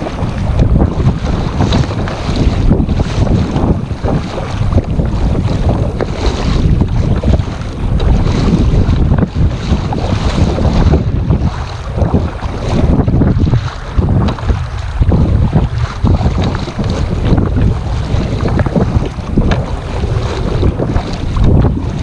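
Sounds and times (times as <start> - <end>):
water sloshing around kayak: 0.0 - 22.0
wind buffeting microphone: 0.0 - 22.0.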